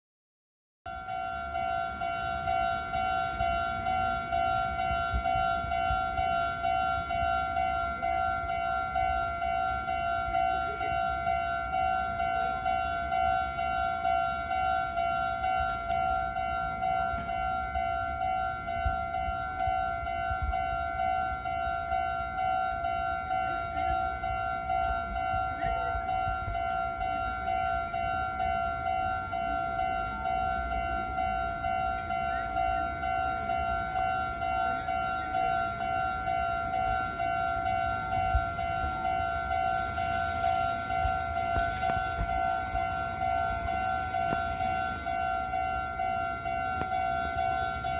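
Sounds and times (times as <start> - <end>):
level crossing alarm bell: 0.9 - 47.9.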